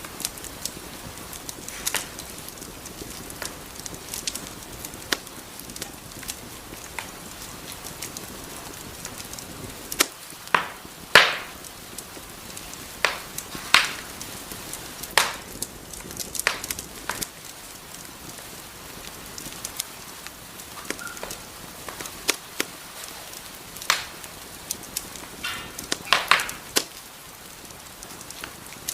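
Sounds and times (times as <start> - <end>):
fire popping: 0.0 - 28.9
soft hiss of fire: 0.0 - 28.9.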